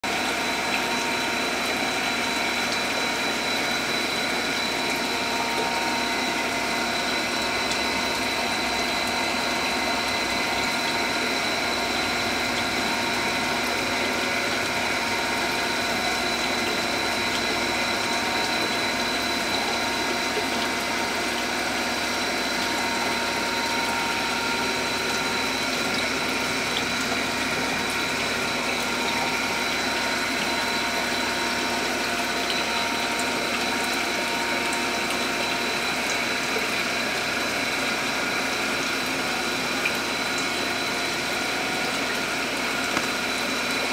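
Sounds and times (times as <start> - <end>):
aquarium pump and filter running: 0.0 - 43.9.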